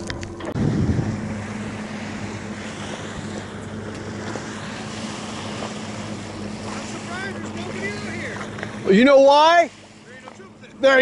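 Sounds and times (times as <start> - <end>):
boat motor humming: 0.0 - 11.0
water noise: 0.0 - 11.0
wind: 0.0 - 11.0.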